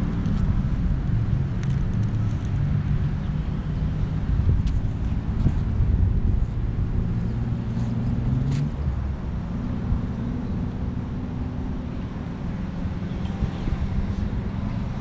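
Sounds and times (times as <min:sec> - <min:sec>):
car engines humming: 0:00.0 - 0:15.0.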